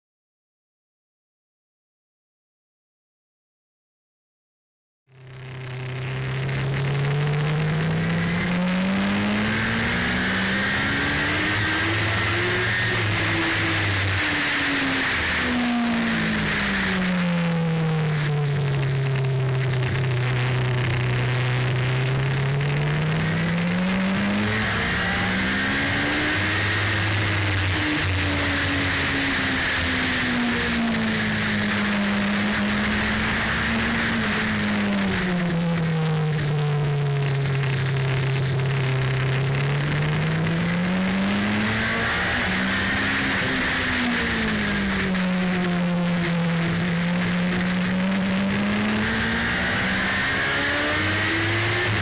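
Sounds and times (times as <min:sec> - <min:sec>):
car engine: 0:05.2 - 0:52.0
wind and road noise: 0:05.2 - 0:52.0
steady rushing noise: 0:05.4 - 0:52.0.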